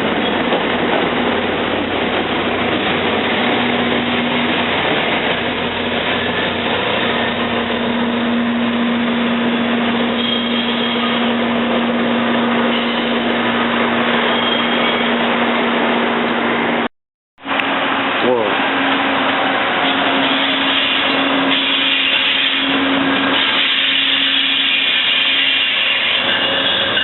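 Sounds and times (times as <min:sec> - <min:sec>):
train mechanical rumble: 0:00.0 - 0:27.0.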